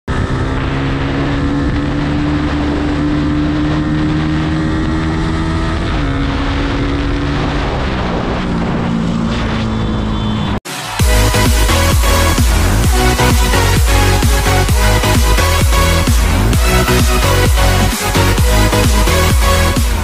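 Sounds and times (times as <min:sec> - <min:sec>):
motorcycle engine running: 0:00.1 - 0:20.0
road noise rushing: 0:00.1 - 0:20.0.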